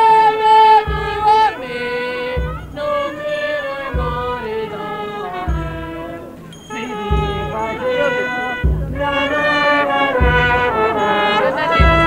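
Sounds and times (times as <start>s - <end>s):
small band playing folk dance tune: 0.0s - 12.0s.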